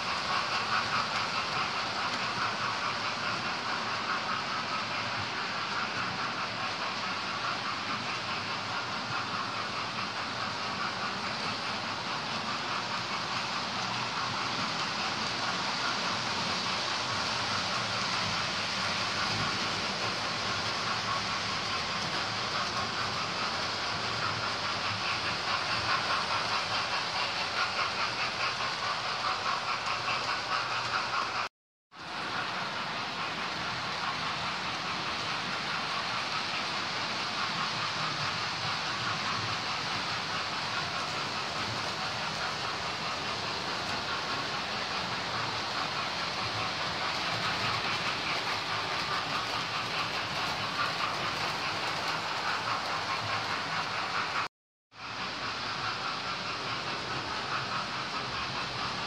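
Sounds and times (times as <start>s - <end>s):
model train running on track: 0.0s - 59.0s.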